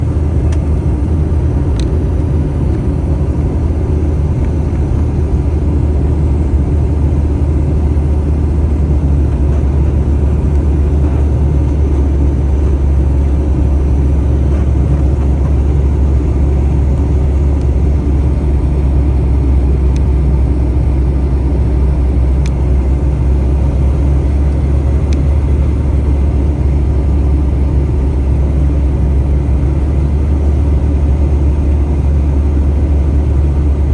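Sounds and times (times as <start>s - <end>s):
airliner cabin drone: 0.0s - 33.9s.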